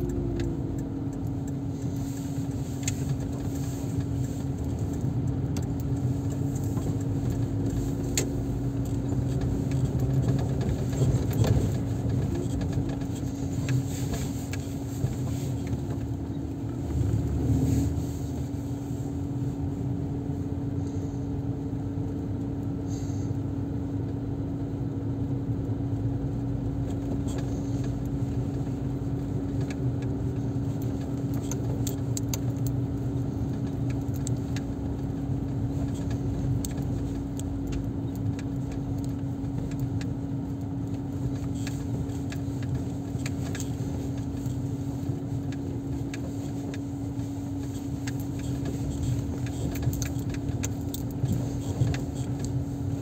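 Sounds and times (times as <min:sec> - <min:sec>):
faint clicks and rattles: 0:00.0 - 0:20.0, 0:25.5 - 0:53.0
car engine hum inside cabin: 0:00.0 - 0:53.0.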